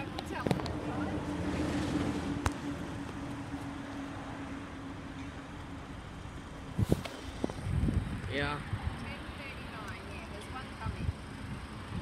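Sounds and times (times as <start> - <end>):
low traffic rumble: 0.0 - 12.0
vehicle engine hum: 0.0 - 12.0.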